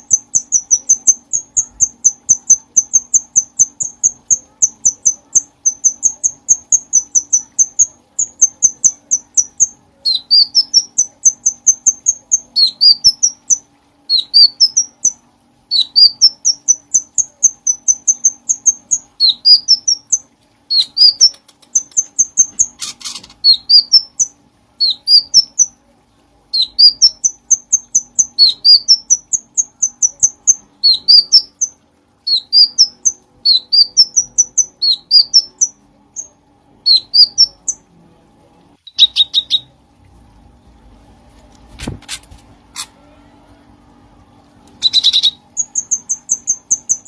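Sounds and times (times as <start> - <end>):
bird singing whistled notes: 0.0 - 22.6, 23.4 - 25.8, 26.5 - 37.8, 38.9 - 39.7, 44.8 - 47.0
faint steady hum: 0.0 - 47.0.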